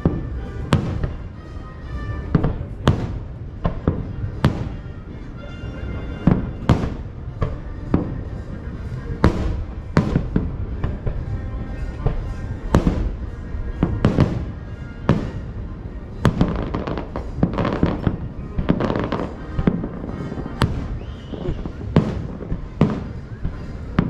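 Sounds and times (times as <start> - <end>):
distant fireworks bursting: 0.0 - 24.0.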